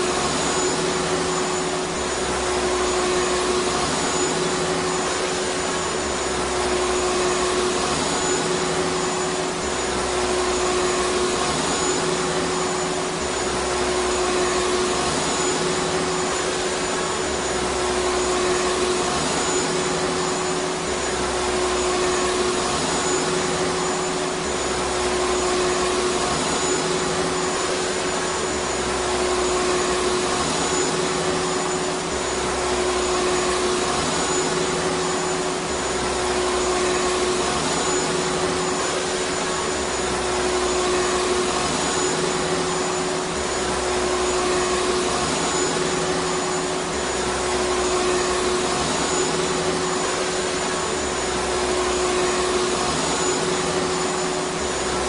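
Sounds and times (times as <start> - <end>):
vacuum cleaner motor running: 0.0 - 55.0.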